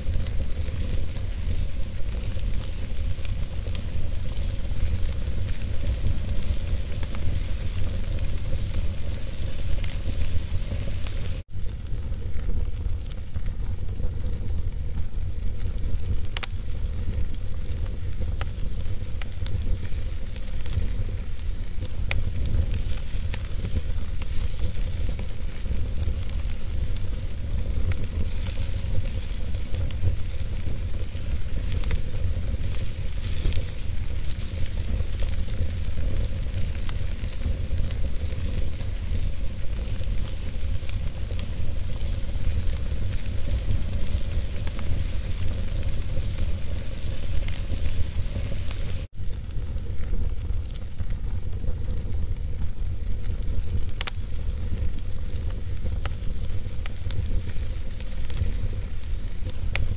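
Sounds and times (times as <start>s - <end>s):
fire crackling and popping: 0.0s - 59.9s
wood fire hissing and rumbling: 0.0s - 59.9s.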